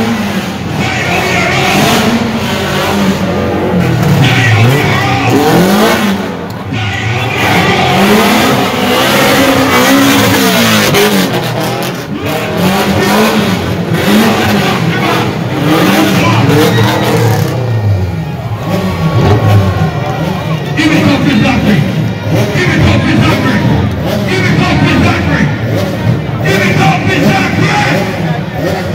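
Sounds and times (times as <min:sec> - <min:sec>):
car engine revving hard: 0:00.0 - 0:28.9
steady roar of noise: 0:00.0 - 0:28.9.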